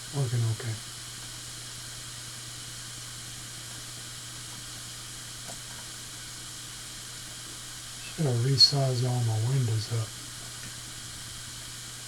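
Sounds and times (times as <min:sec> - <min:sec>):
hard drive whirring hum: 0:00.0 - 0:12.0.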